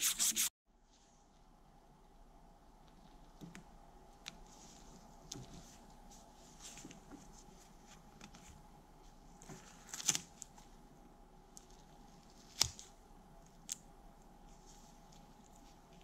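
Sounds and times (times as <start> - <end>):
low room hum: 0.7 - 16.0.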